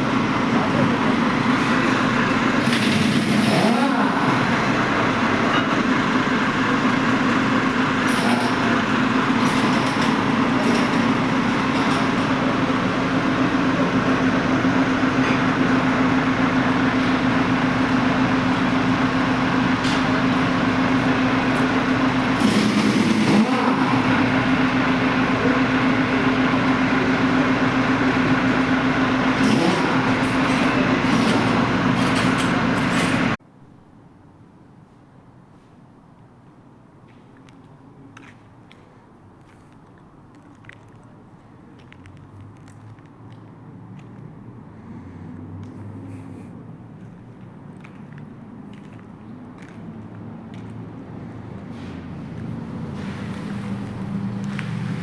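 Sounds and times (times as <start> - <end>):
vehicle engine droning: 0.0 - 33.4, 37.4 - 55.0.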